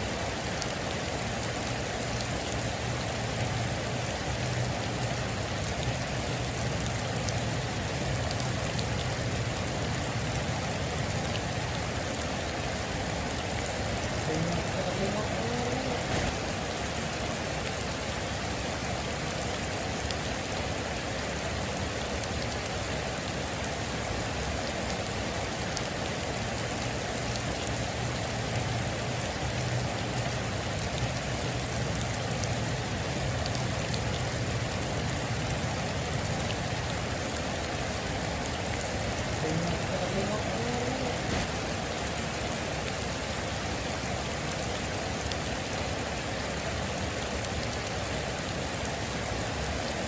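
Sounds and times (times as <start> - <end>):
heavy rain on a metal roof: 0.0 - 50.0.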